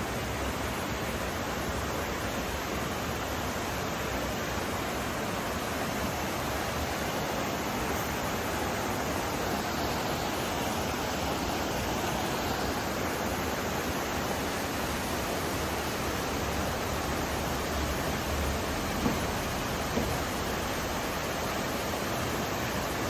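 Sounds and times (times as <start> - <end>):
mountain river rushing: 0.0 - 23.0.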